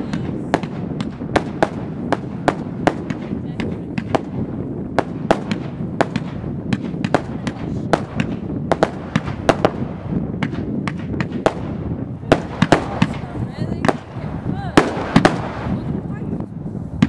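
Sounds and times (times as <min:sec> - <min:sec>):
fireworks bangs and pops: 0:00.0 - 0:17.0
low rumble: 0:00.0 - 0:17.0.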